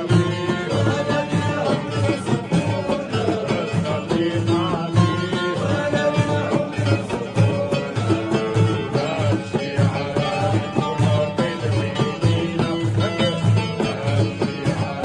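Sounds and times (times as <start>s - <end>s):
plucked string instruments: 0.0s - 15.0s.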